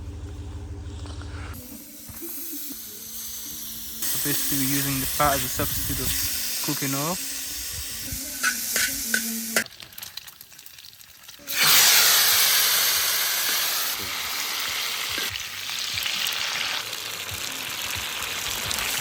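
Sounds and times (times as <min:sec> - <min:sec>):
meat sizzling in fat: 0:01.5 - 0:19.0.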